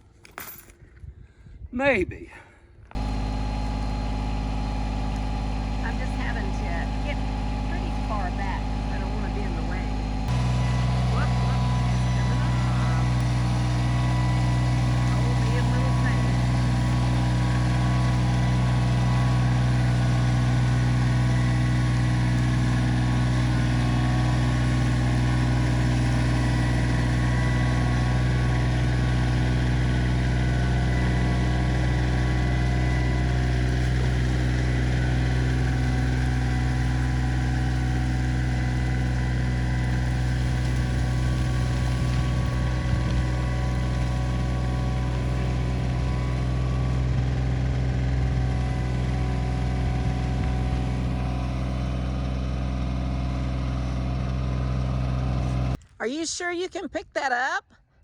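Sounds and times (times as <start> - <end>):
tractor diesel engine running: 2.9 - 55.8.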